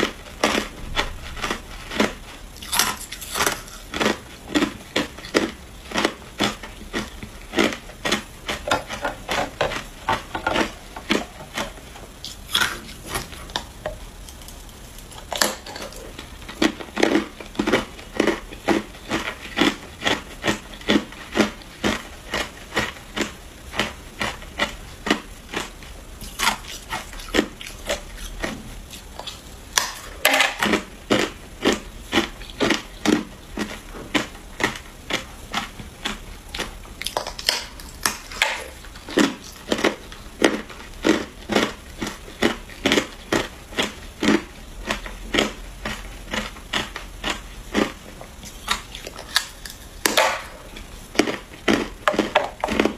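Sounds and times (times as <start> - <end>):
ice crunching being chewed: 0.0 - 52.9.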